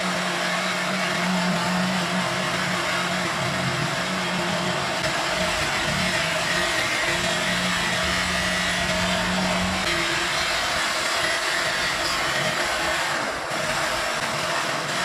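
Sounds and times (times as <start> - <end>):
electric power tool whirring: 0.0 - 15.0.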